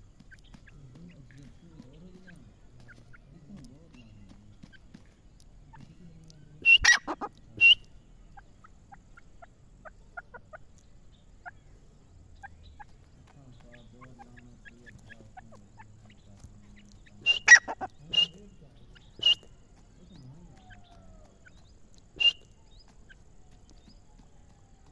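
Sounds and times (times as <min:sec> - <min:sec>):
francolin calling: 0:00.0 - 0:24.9.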